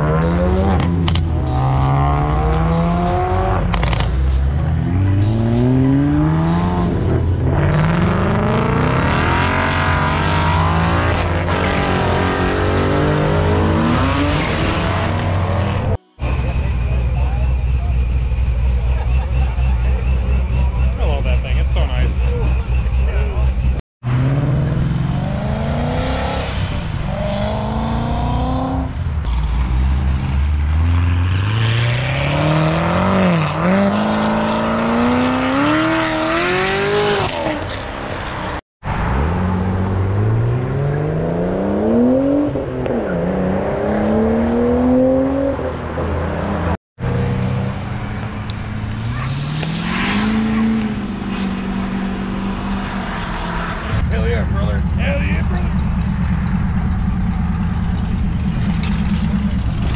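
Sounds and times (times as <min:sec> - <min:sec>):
cars accelerating hard: 0:00.0 - 0:59.9.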